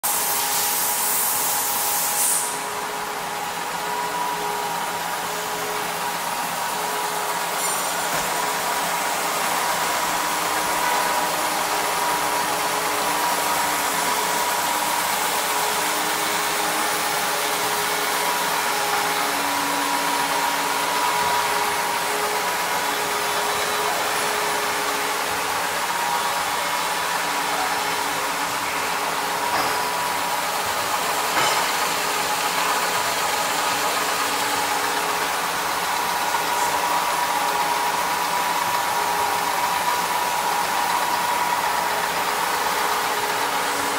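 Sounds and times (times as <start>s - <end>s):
machine whirring with whine: 0.0s - 43.9s.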